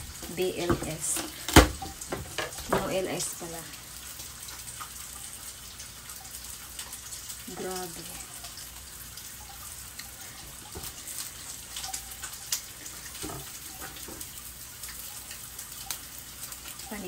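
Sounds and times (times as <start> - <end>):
bacon sizzling in a frying pan: 0.0 - 17.0.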